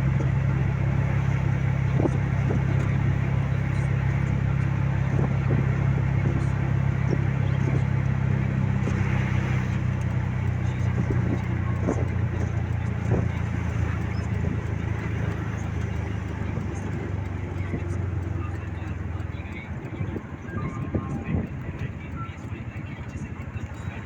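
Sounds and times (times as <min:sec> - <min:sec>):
low engine drone: 0:00.0 - 0:24.0
road and tyre noise: 0:00.0 - 0:24.0.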